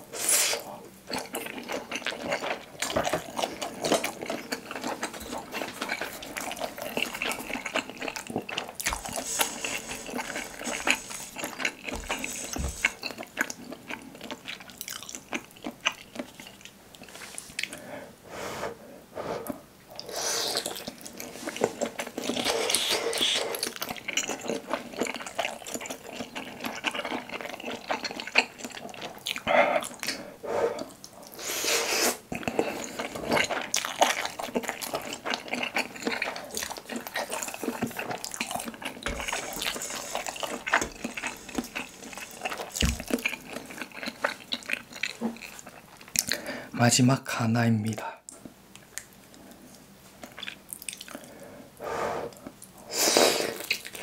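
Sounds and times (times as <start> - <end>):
wet chewing of fish cake: 0.0 - 17.8, 19.5 - 46.6, 48.2 - 51.5, 52.3 - 54.0.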